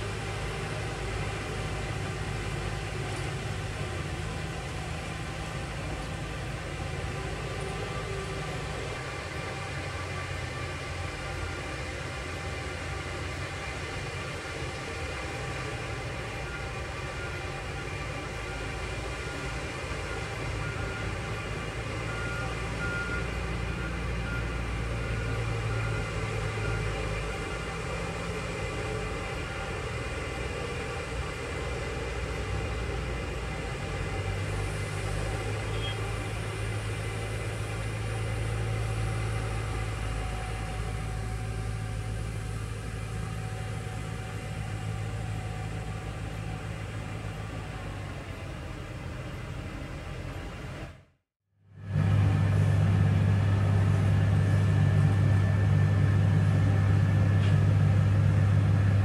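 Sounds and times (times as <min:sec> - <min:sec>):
cars and trucks passing: 0:00.0 - 0:51.0
road traffic drone: 0:00.0 - 0:59.0
road-work machinery: 0:00.0 - 0:59.0.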